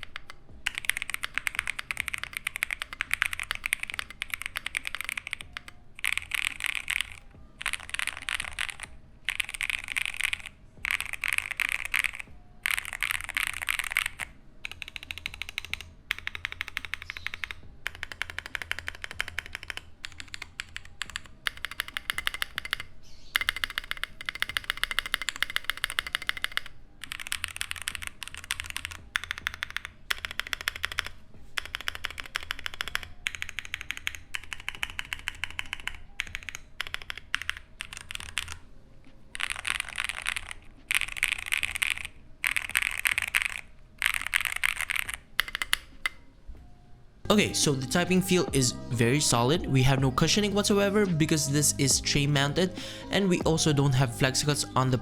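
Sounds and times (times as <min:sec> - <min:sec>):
mechanical keyboard typing: 0:00.0 - 0:46.2, 0:47.3 - 0:55.0.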